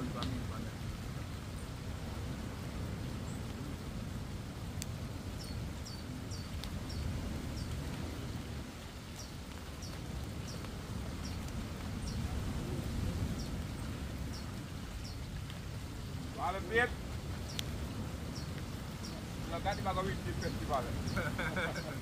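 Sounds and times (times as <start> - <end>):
wind and sea rumble: 0.0 - 22.0.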